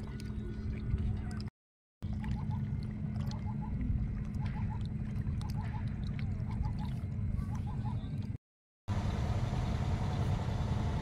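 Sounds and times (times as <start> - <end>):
low rumble and hum: 0.0 - 11.0.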